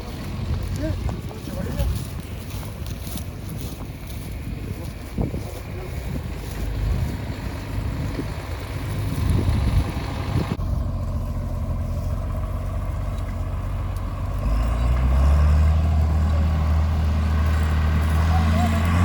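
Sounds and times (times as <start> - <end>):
tractor engine running: 0.0 - 19.0
wind buffeting microphone: 0.0 - 19.0.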